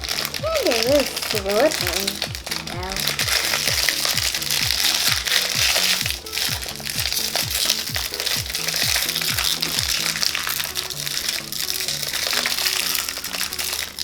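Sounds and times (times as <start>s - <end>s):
electronic music with beat: 0.0s - 14.0s
plastic wrapping crinkling: 0.0s - 14.0s.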